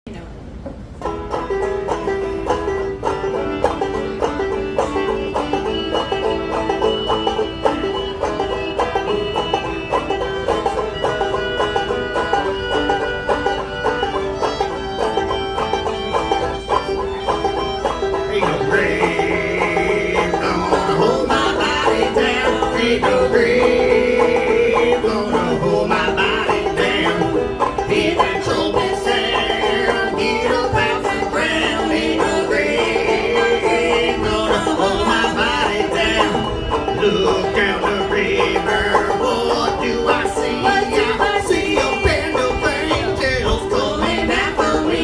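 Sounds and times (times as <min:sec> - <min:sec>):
bluegrass band playing: 0:00.1 - 0:45.0
fast banjo picking: 0:00.6 - 0:45.0.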